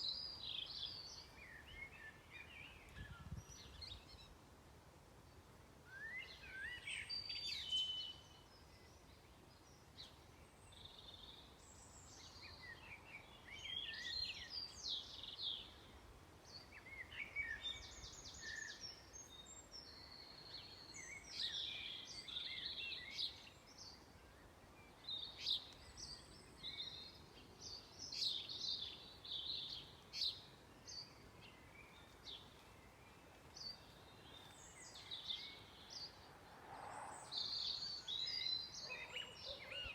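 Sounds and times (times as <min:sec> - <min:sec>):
faint steady background noise: 0:00.0 - 0:39.9
songbirds chirping and trilling: 0:00.0 - 0:39.9.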